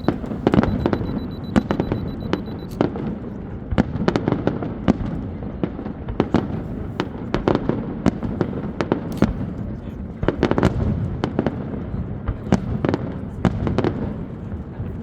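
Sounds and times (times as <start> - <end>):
fireworks bangs and cracks: 0.0 - 15.0
low fireworks rumble: 0.0 - 15.0.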